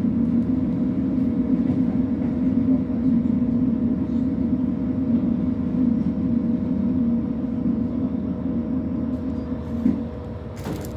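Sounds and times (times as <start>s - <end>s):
constant hum tone: 0.0s - 10.9s
railcar engine drone: 0.0s - 10.9s.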